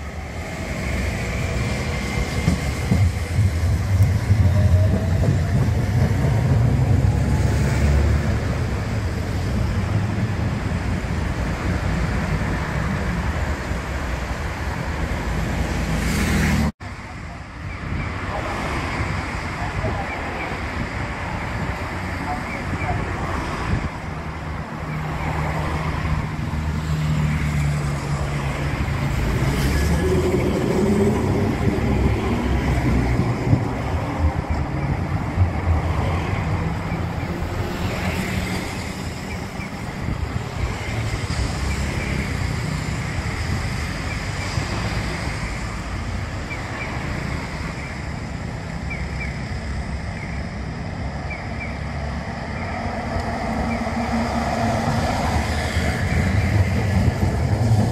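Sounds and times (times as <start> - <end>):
cars passing on road: 0.0 - 57.9.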